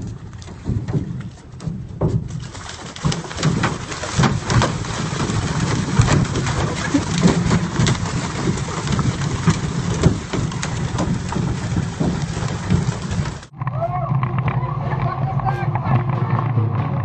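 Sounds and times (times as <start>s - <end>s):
fish splashing in water: 0.0s - 13.6s.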